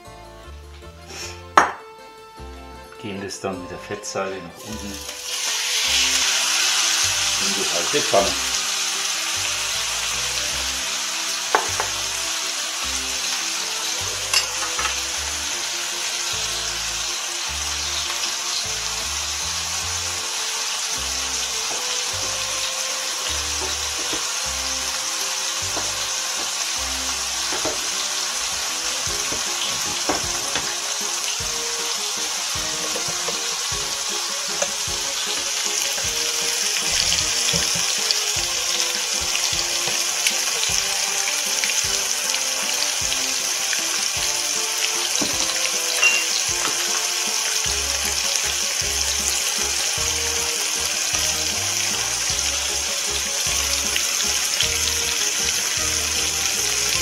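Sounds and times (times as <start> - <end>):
meat sizzling in a frying pan: 4.5 - 57.0.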